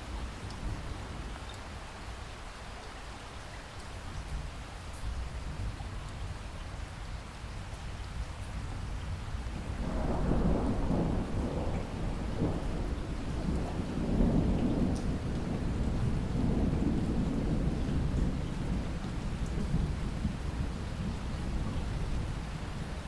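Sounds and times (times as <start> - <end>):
steady rainfall: 0.0 - 23.0.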